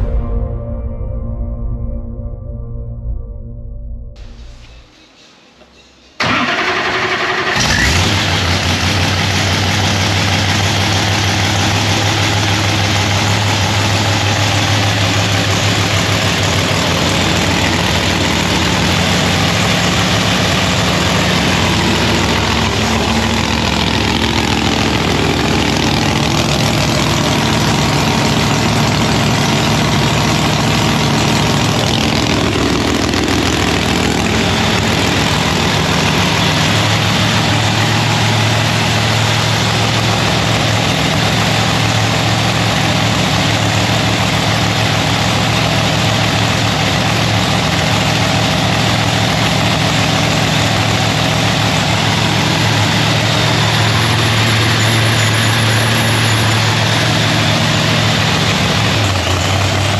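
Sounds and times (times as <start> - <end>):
car engine starting and idling: 0.0 - 5.0, 6.1 - 59.9.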